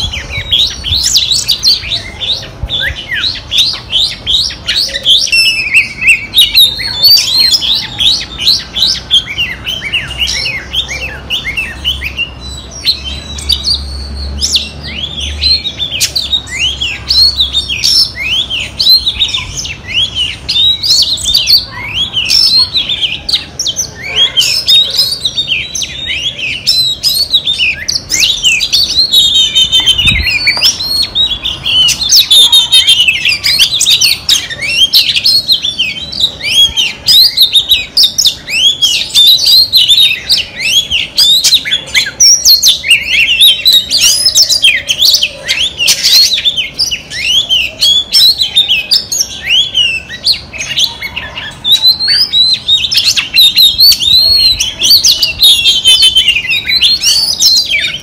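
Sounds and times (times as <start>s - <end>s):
bird singing whistled notes: 0.0s - 58.0s.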